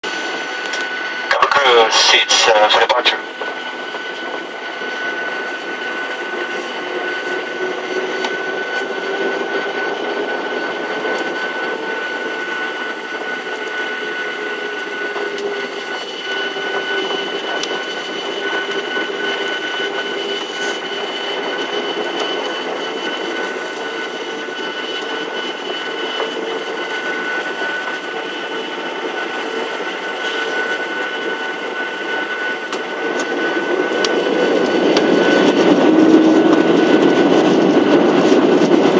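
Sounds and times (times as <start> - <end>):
jet engines heard from cabin: 0.0 - 38.9.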